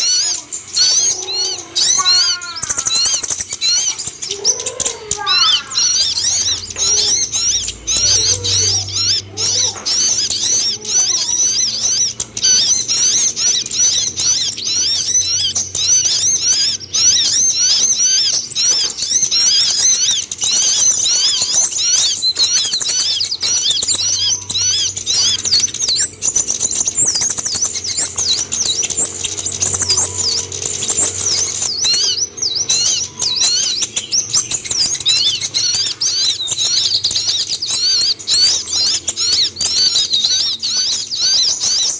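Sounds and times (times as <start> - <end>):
high-pitched bird twittering: 0.0 - 41.9.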